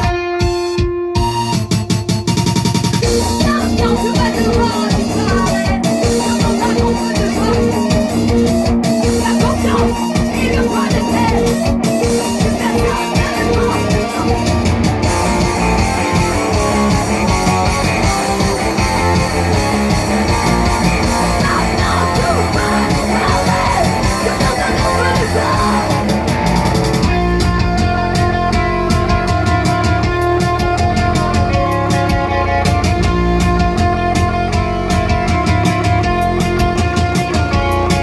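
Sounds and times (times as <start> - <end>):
guitar playing: 0.0 - 38.0
rock band playing live: 0.0 - 38.0.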